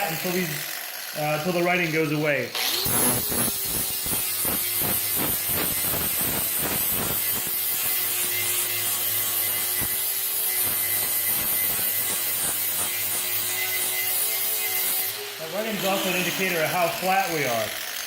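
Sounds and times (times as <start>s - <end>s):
grinder grinding steel: 0.0s - 18.0s.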